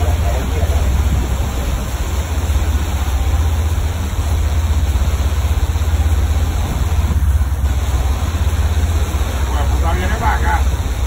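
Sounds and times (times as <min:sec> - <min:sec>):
boat engine droning: 0:00.0 - 0:11.0
wind and water hiss: 0:00.0 - 0:11.0.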